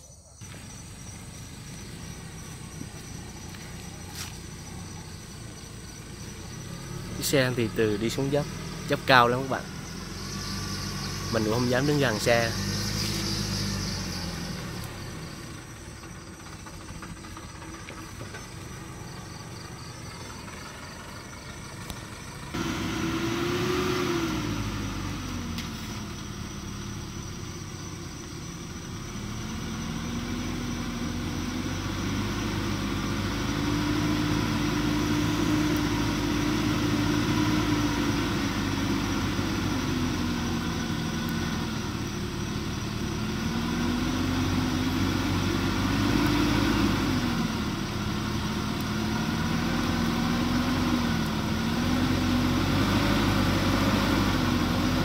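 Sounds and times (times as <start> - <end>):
truck diesel engine running: 0.1 - 55.0.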